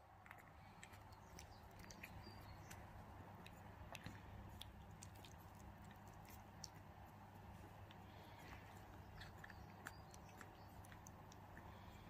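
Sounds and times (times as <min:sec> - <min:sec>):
steady low hum: 0:00.0 - 0:12.0
puppy suckling wet clicks: 0:00.1 - 0:12.0.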